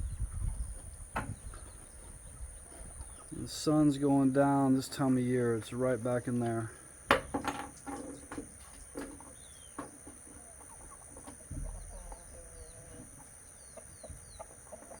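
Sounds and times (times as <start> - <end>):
bird clucking calls: 0.0 - 5.2, 6.4 - 15.0
distant birds calling: 0.0 - 15.0.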